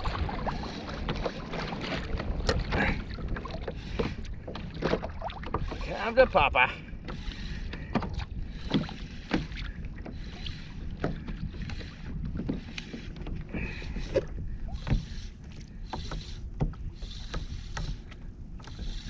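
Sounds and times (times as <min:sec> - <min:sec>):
water washing against hull: 0:00.0 - 0:19.0
wind rumbling on microphone: 0:00.0 - 0:19.0.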